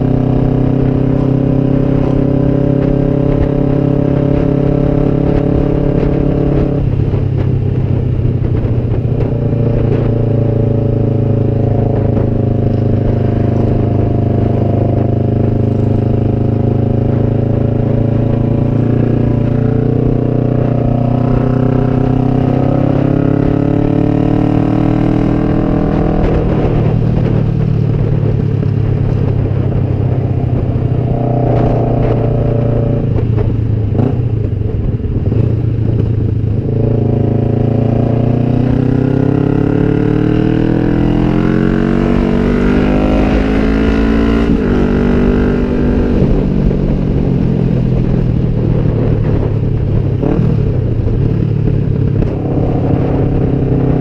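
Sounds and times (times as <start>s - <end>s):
motorcycle engine accelerating: 0.0s - 54.0s
wind noise: 0.0s - 54.0s.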